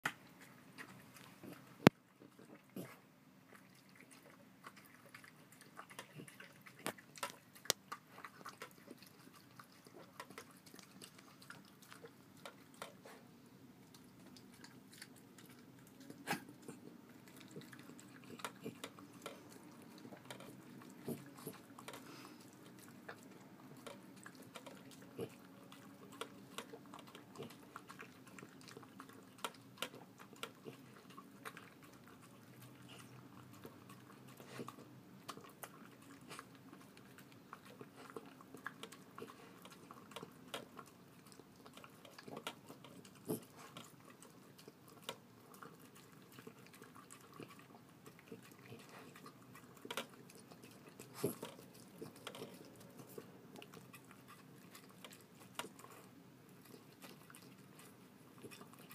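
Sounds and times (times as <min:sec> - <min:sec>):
dog chewing wet food: 0:00.0 - 0:58.9.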